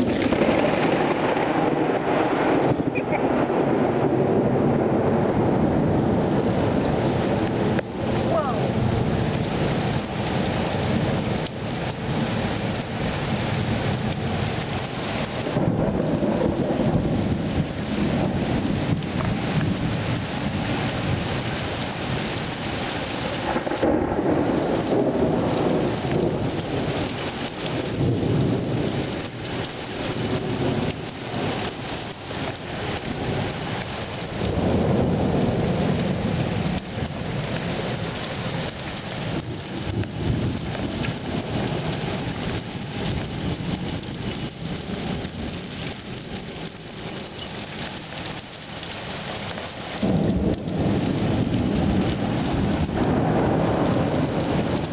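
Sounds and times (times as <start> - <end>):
heavy rain pouring: 0.0 - 54.9
thunder rumbling: 0.0 - 54.9.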